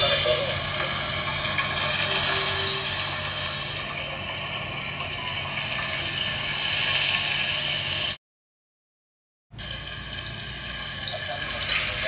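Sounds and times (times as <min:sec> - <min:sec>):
fish sizzling in a grill pan: 0:00.0 - 0:08.2, 0:09.6 - 0:12.0.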